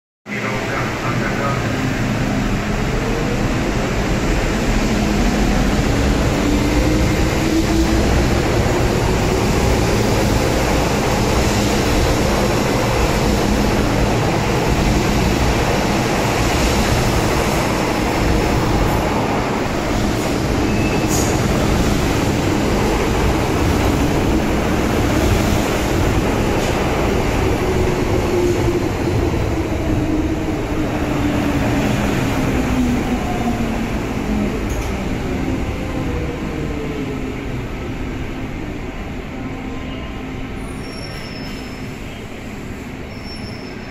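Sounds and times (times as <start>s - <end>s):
train wheels rumbling on rail: 0.3s - 43.9s.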